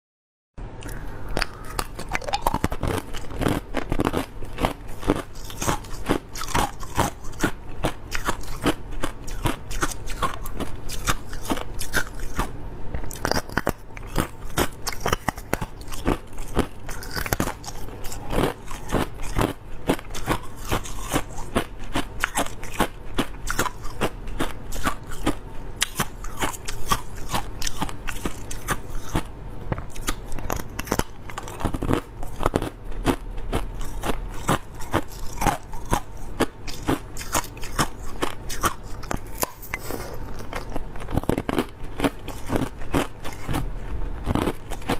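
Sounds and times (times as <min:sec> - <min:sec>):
chewing crushed ice: 0:00.8 - 0:44.9.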